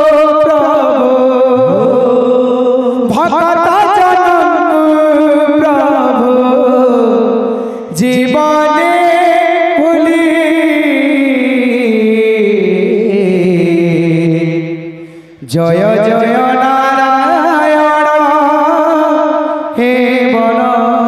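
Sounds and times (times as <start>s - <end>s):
person singing through microphone: 0.0s - 21.0s.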